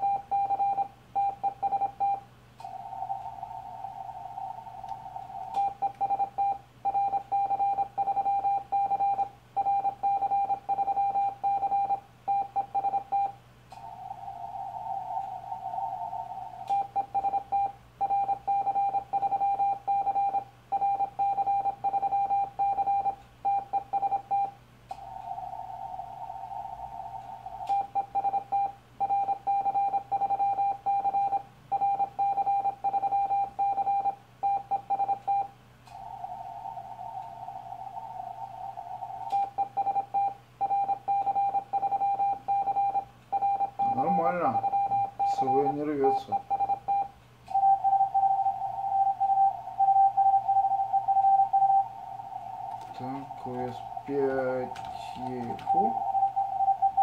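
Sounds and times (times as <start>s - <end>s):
morse code tone keying: 0.0s - 13.4s, 15.0s - 24.5s, 26.2s - 57.0s
receiver hiss: 0.0s - 30.8s, 32.0s - 57.0s.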